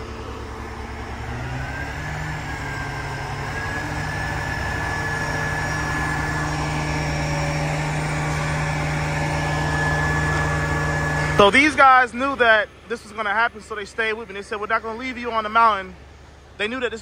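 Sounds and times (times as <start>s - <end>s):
truck engine pulling under load: 0.0s - 17.0s
thin high whine: 2.6s - 17.0s.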